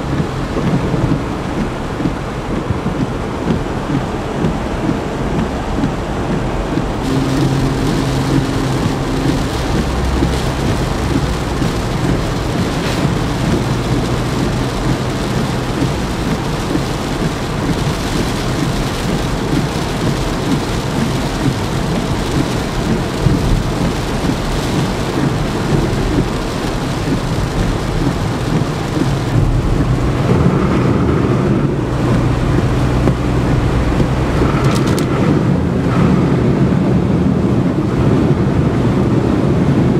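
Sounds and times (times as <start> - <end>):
heavy rain pouring: 0.0 - 39.9
low thunder rumble: 0.0 - 39.9.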